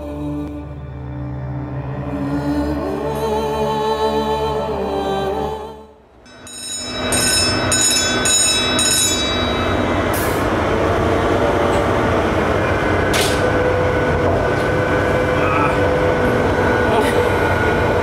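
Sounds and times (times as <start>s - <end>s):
ship engine droning: 0.0s - 18.0s.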